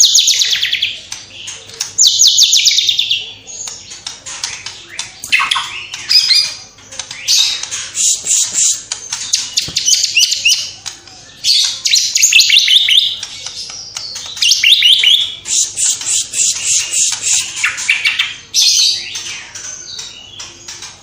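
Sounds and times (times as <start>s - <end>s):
songbird singing trills and chirps: 0.0s - 21.0s.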